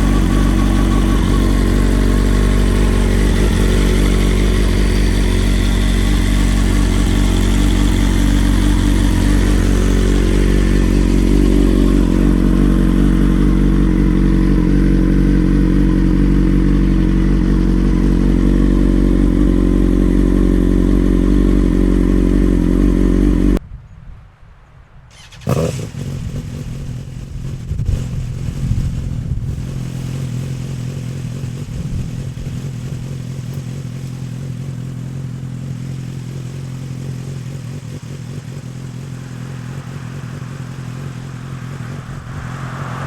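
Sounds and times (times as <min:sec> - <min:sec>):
motorcycle engine running at low revs: 0:00.0 - 0:23.6, 0:25.2 - 0:43.0.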